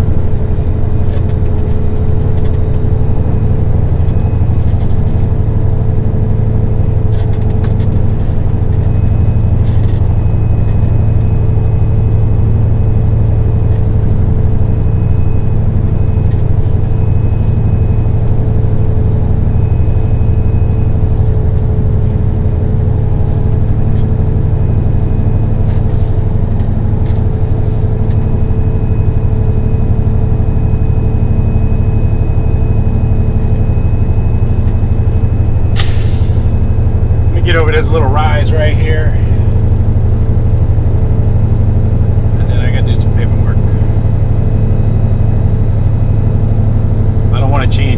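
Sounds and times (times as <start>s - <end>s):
road noise: 0.0s - 47.9s
truck diesel engine running: 0.0s - 47.9s.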